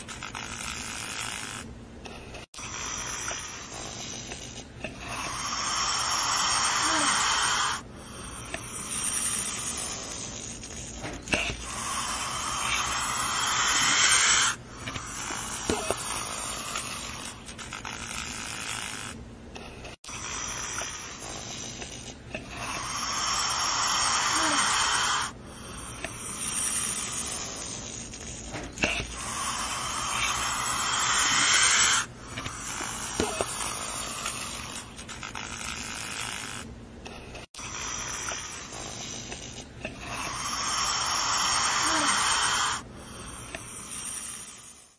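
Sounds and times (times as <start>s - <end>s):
snake hissing: 0.0s - 1.7s, 2.5s - 19.2s, 20.0s - 36.7s, 37.5s - 44.9s.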